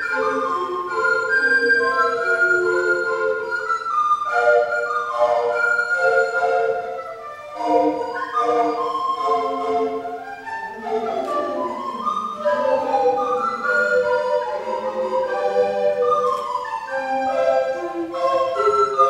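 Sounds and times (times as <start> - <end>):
recorder ensemble playing: 0.0 - 19.0.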